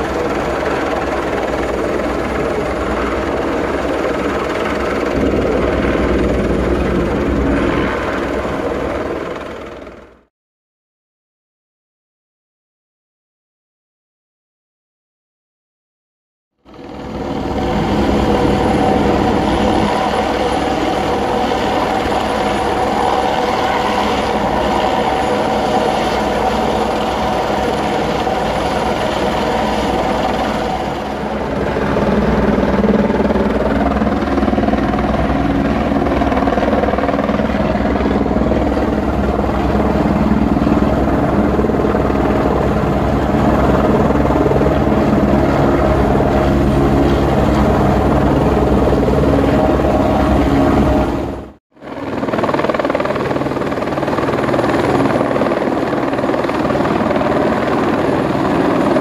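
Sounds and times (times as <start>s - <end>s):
helicopter hovering: 0.0s - 10.3s, 16.6s - 59.0s.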